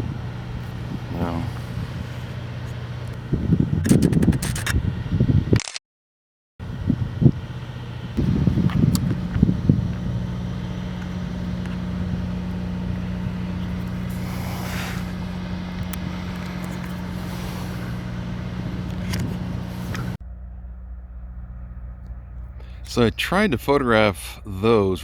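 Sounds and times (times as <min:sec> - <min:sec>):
car engine humming: 0:00.0 - 0:05.5, 0:06.6 - 0:25.0
road noise: 0:00.0 - 0:05.6, 0:06.6 - 0:25.0.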